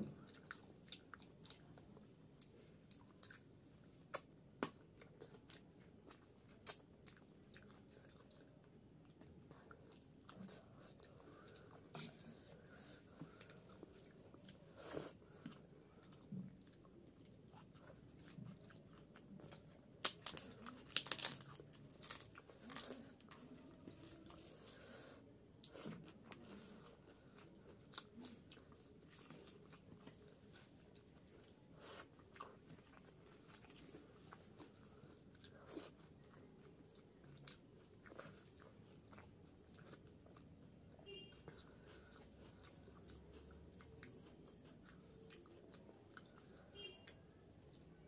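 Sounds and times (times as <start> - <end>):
person chewing food: 0.0 - 48.0.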